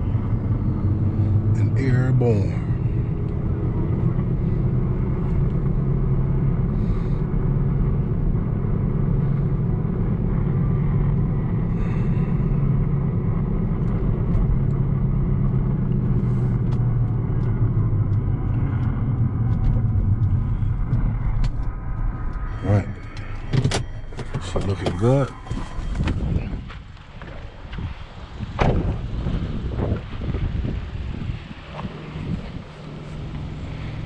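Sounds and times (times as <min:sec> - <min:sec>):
car engine rumble: 0:00.0 - 0:34.0.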